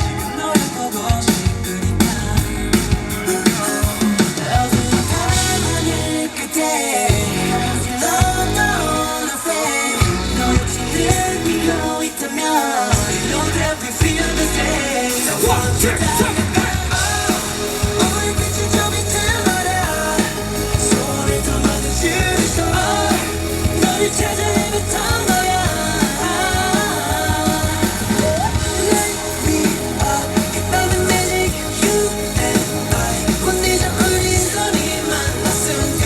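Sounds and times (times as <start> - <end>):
bass-heavy beat: 0.0 - 6.1, 7.1 - 9.1, 10.0 - 11.9, 13.0 - 36.0
male singing: 0.0 - 36.0
pop song over sound system: 0.0 - 36.0.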